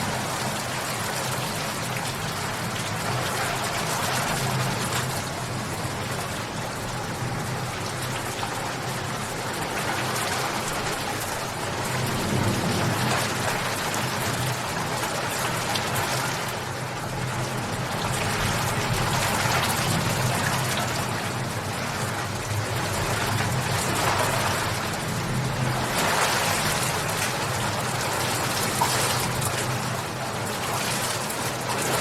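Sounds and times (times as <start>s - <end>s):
rain patter on a surface: 0.0s - 32.0s.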